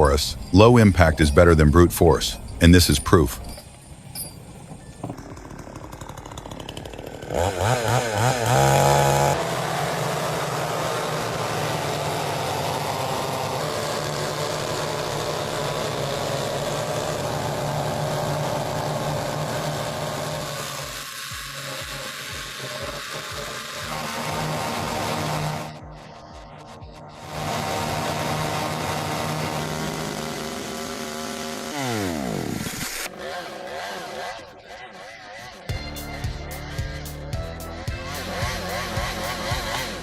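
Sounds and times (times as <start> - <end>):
chainsaw revving: 4.6 - 35.0, 35.7 - 40.0.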